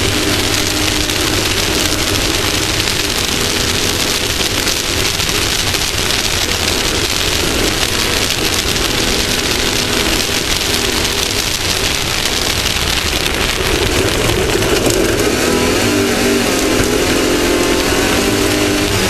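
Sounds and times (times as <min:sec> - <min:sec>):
loud rushing noise: 0:00.0 - 0:19.0
race vehicle engine under load: 0:00.0 - 0:19.0.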